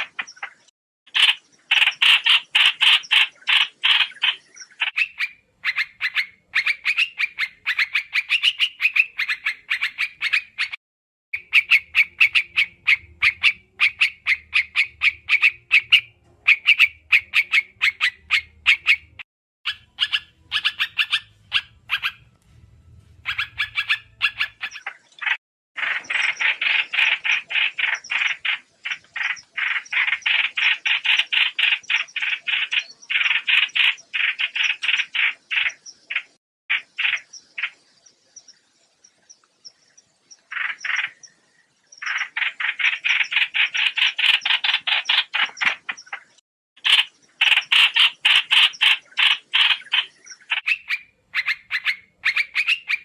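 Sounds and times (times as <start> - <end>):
recorded birdsong chattering: 0.0 - 10.8, 11.4 - 53.0.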